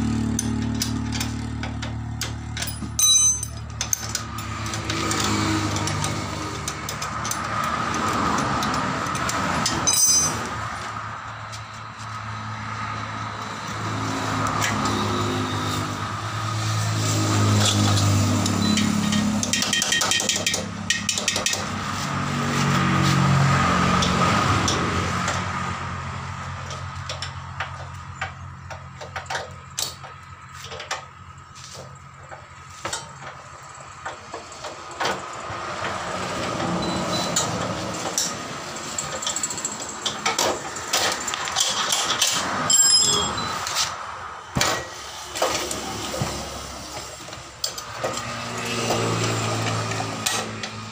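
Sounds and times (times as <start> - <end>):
hand tools clicking and knocking: 0.0 - 12.2, 13.4 - 50.9
vehicle engine running: 0.0 - 41.8.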